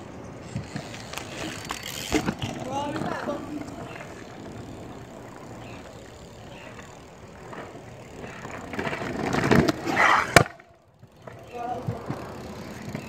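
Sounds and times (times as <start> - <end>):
bike wheels rolling on pavement: 0.0 - 13.0.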